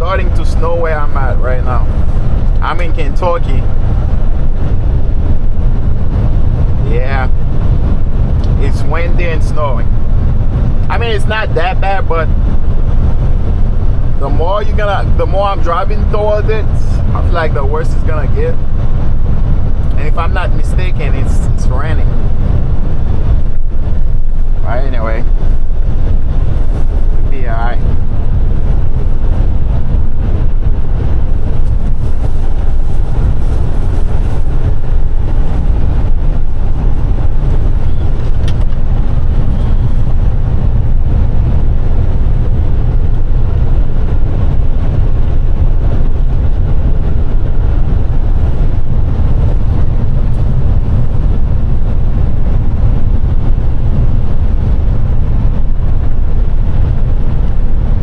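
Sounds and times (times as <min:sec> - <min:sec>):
truck diesel engine: 0:00.0 - 0:58.0
tyre and road noise: 0:00.0 - 0:58.0.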